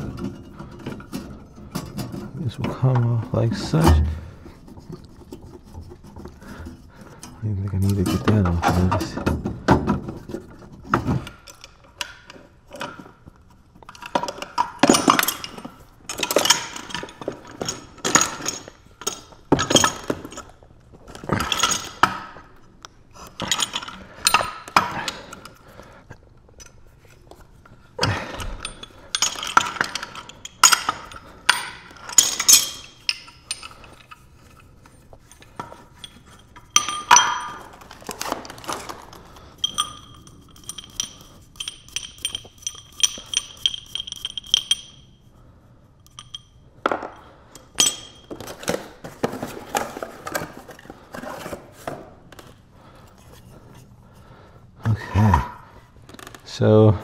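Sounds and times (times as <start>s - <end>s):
wrenches clanking on pipe fittings: 0.0s - 22.5s, 23.2s - 25.9s, 28.0s - 45.2s, 46.0s - 49.4s.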